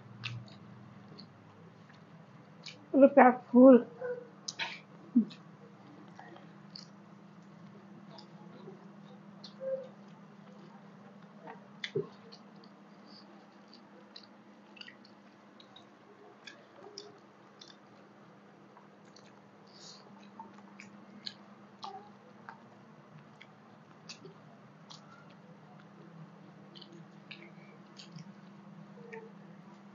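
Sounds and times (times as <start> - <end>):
soft chewing: 0.0 - 2.9, 3.9 - 29.9
steady low hum: 0.0 - 29.9.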